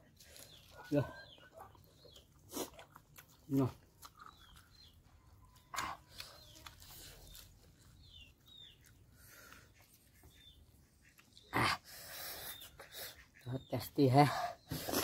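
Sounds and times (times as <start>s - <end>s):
faint chewing: 0.0s - 13.4s
small birds chirping: 0.0s - 15.0s.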